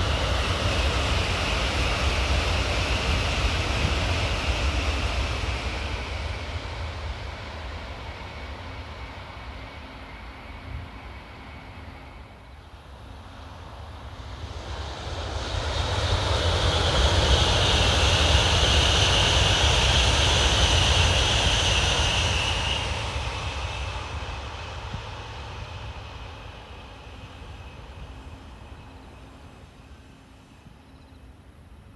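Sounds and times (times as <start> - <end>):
high-speed train passing: 0.0 - 31.9.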